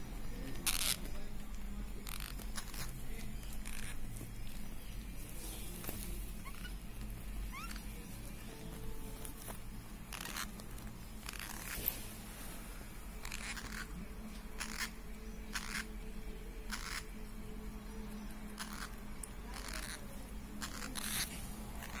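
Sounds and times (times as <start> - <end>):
parrot chicks scratchy calls: 0.4 - 1.2, 1.9 - 12.1, 13.2 - 16.0, 16.6 - 22.0.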